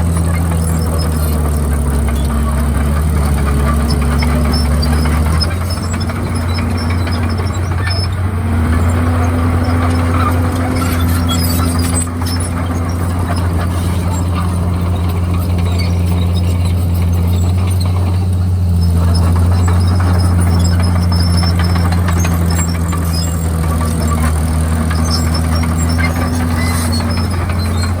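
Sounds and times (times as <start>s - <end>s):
bulldozer diesel engine running: 0.0s - 28.0s
machine squeaks and clinks: 0.0s - 28.0s.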